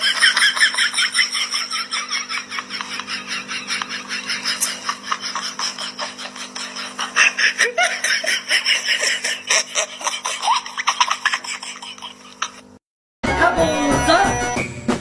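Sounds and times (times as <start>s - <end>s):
bursts of laughter: 0.0s - 12.6s.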